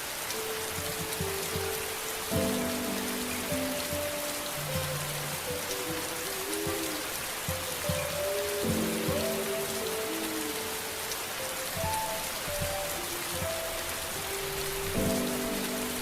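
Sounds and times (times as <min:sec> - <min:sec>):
soft ambient music: 0:00.0 - 0:16.0
steady rain hissing: 0:00.0 - 0:16.0
gentle low thuds: 0:00.6 - 0:16.0.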